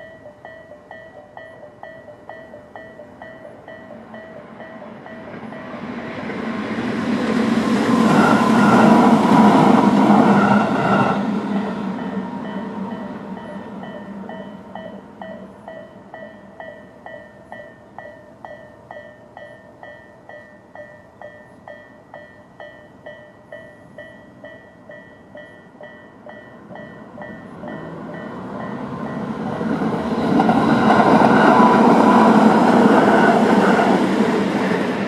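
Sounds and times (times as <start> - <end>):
crossing warning bell: 0.0 - 6.6, 7.2 - 35.0
electric train rumble: 0.0 - 35.0.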